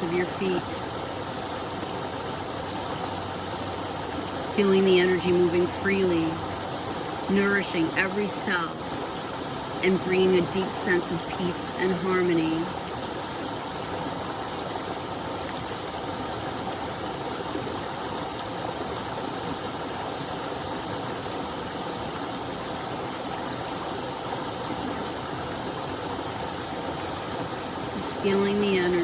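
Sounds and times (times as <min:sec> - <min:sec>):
waterfall running: 0:00.0 - 0:29.0.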